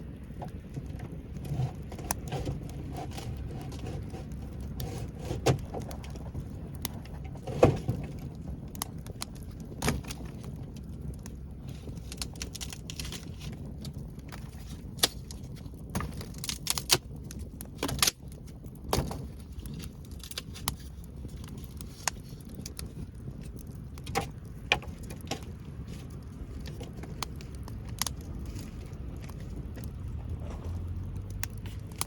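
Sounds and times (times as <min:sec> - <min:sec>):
low steady rumble: 0:00.0 - 0:32.0
wood fire crackling: 0:00.0 - 0:32.0.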